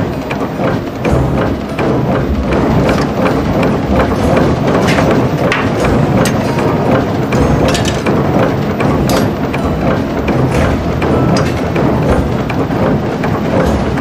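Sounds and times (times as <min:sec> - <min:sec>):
power hammer machine din: 0:00.0 - 0:14.0.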